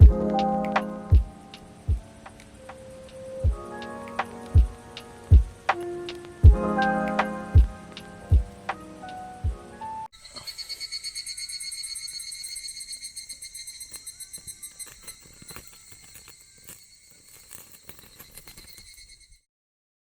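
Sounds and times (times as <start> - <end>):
insects chirping: 0.0 - 19.4.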